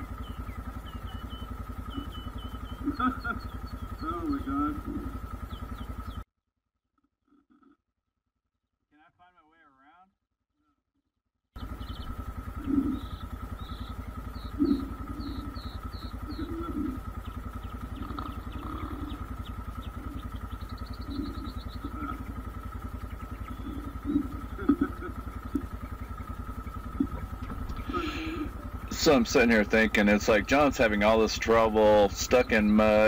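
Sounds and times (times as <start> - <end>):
birds chirping: 0.0 - 6.2, 11.6 - 33.0
motorcycle engine idling: 0.0 - 6.2, 11.6 - 33.0.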